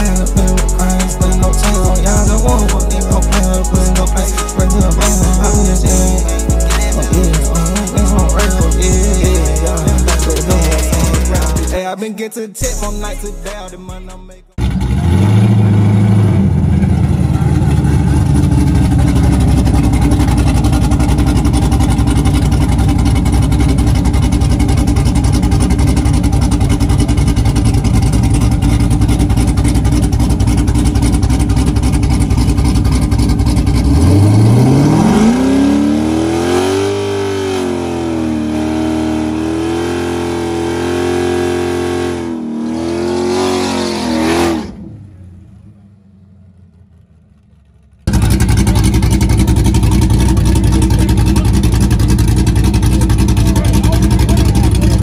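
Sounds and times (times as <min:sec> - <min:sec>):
car engine rumbling and revving: 0:00.0 - 0:11.8, 0:12.6 - 0:55.0.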